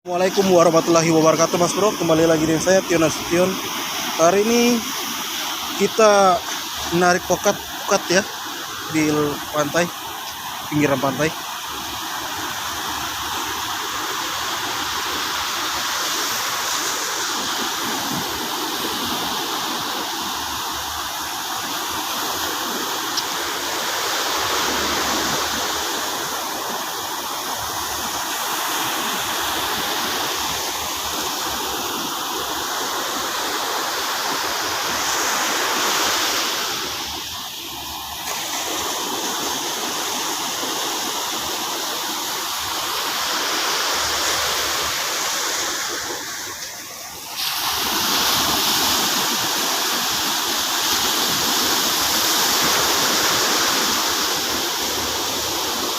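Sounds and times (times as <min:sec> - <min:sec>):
sea surf rushing on shore: 0:00.0 - 0:55.9.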